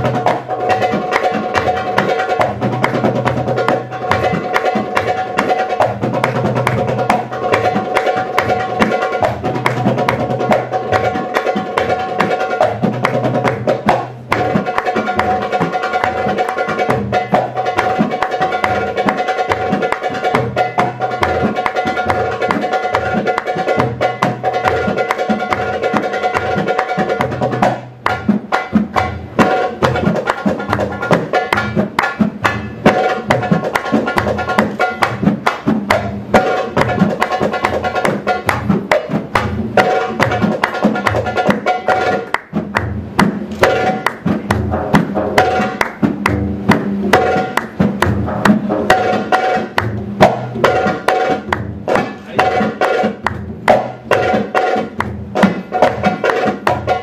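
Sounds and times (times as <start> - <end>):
rapid hand drum strokes: 0.0 - 57.0.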